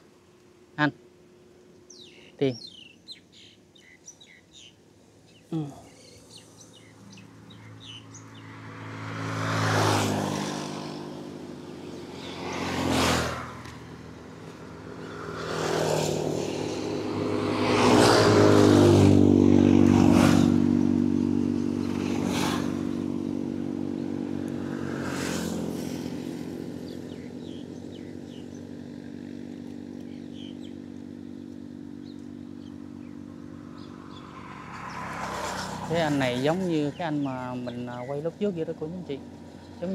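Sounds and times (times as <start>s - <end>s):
motor vehicles passing: 0.0s - 39.9s
low engine hum: 2.7s - 39.9s.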